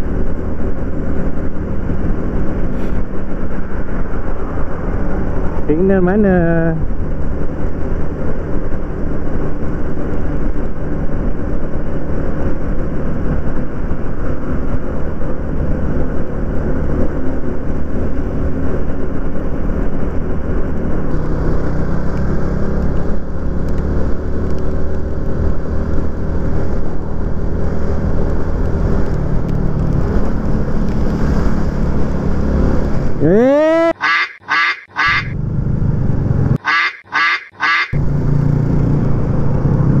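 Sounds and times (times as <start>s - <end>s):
motorcycle engine hum: 0.0s - 6.2s, 6.8s - 40.0s.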